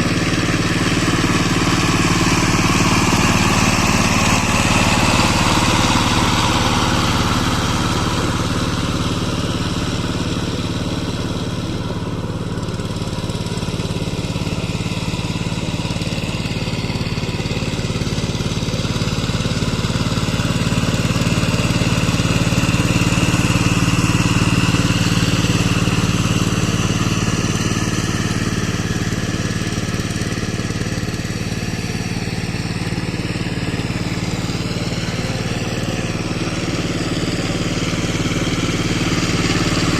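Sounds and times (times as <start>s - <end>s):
power tiller engine running: 0.0s - 39.9s.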